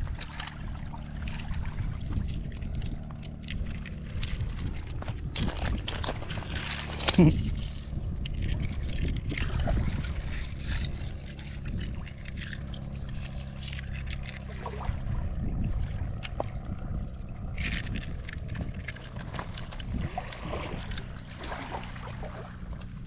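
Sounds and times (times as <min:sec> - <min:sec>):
motorboat engine hum: 0:00.0 - 0:23.0
water splashing: 0:00.0 - 0:23.0.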